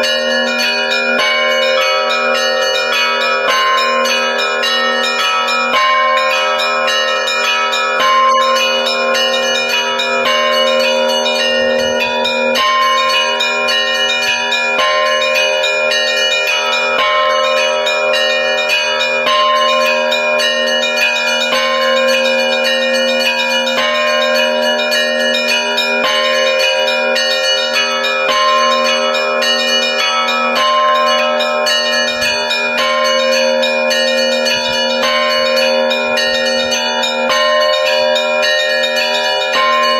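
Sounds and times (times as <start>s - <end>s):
deep church bell ringing: 0.0s - 39.9s
quick strikes on small bells: 0.0s - 39.9s.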